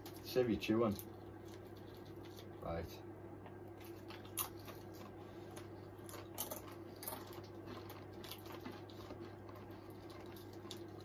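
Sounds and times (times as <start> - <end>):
chip crunching: 0.0 - 2.7, 3.7 - 11.0
steady low hum: 0.0 - 11.0.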